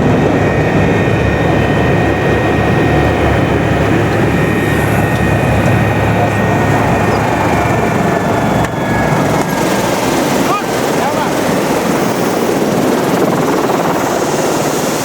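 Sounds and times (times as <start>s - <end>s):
helicopter rotor and engine noise: 0.0s - 15.0s
high turbine whine: 0.0s - 15.0s.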